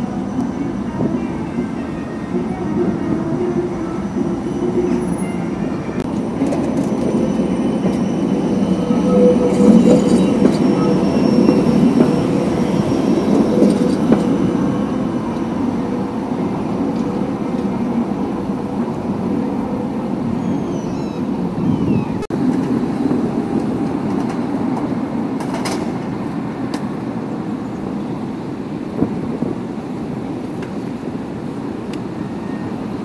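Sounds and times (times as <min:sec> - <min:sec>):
tram rolling on rails: 0:00.0 - 0:33.0.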